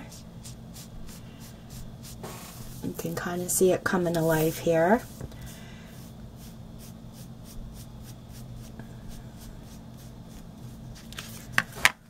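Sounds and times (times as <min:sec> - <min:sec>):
ink pad rubbing on cardstock: 0:00.0 - 0:03.0, 0:04.2 - 0:10.8.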